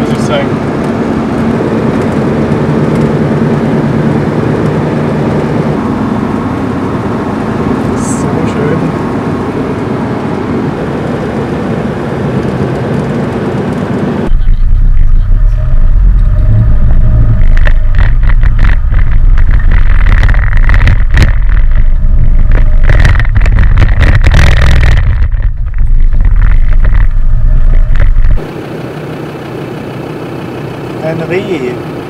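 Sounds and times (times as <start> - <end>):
diesel engine and road drone: 0.0 - 32.0.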